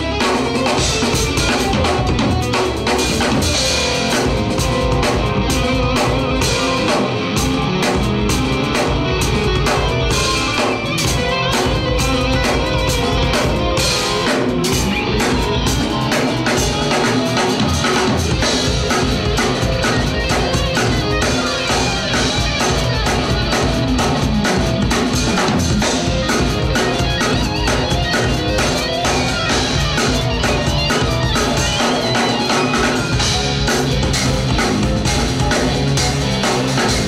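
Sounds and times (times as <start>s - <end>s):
drum kit playing: 0.0s - 37.0s
guitar: 0.0s - 37.0s.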